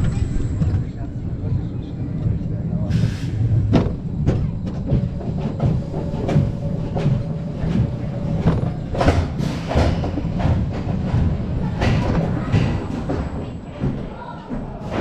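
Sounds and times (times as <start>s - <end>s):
roller coaster train rumble: 0.0s - 15.0s
wheels clacking on track: 0.0s - 15.0s.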